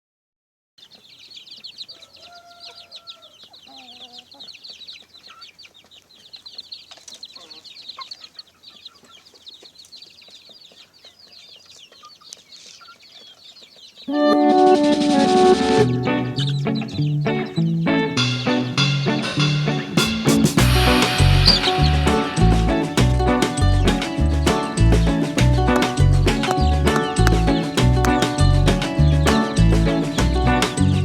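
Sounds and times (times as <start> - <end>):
chicken clucking: 0.8 - 18.9, 19.7 - 31.0
chicks peeping: 0.8 - 31.0.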